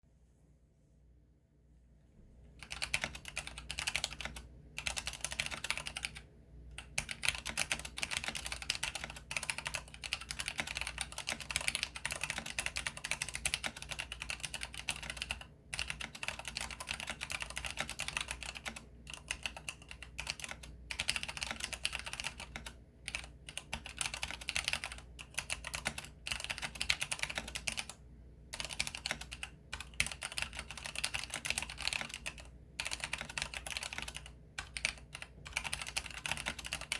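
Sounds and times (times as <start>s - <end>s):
fast keyboard typing: 2.6s - 36.9s.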